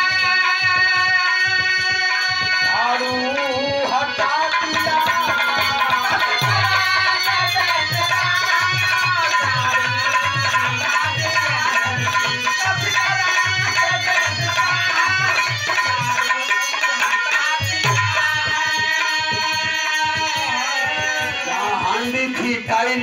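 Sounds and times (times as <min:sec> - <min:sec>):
harmonium melody: 0:00.0 - 0:23.0.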